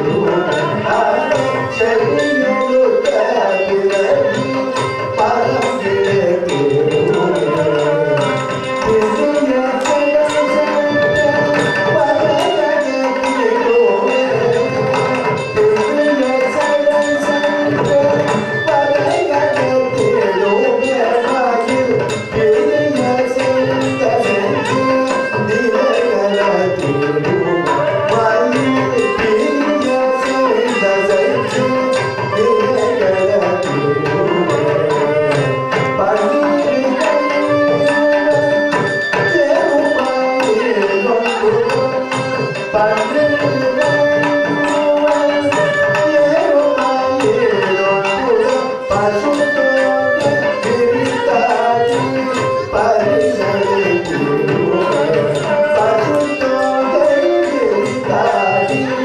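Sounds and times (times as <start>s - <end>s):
violin melody: 0.0s - 59.0s.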